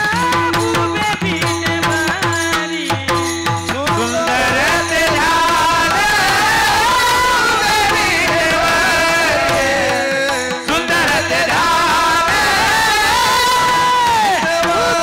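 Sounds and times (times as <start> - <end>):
devotional singing: 0.0 - 15.0
instrumental accompaniment: 0.0 - 15.0.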